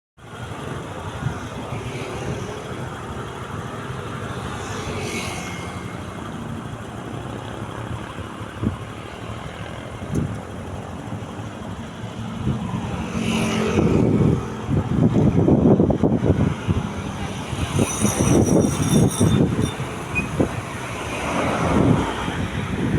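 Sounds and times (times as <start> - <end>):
vehicle rumble: 0.2 - 22.9.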